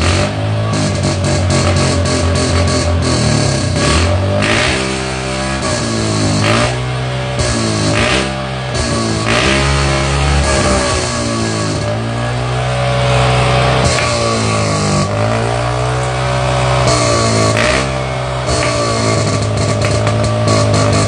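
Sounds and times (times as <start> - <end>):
simulated motorcycle exhaust revving: 0.0 - 21.0.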